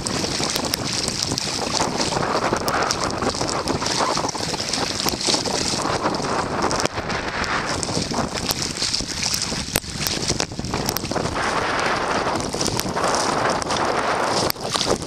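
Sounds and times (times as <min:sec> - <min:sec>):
choppy lake water: 0:00.0 - 0:15.0
wind buffeting microphone: 0:00.0 - 0:15.0.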